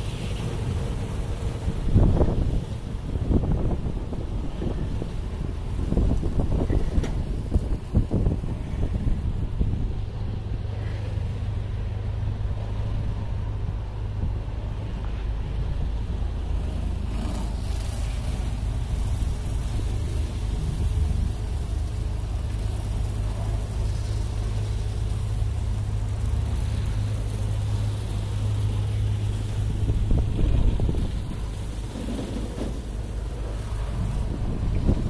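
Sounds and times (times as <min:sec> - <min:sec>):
water spray hissing on truck: 0:00.0 - 0:35.0.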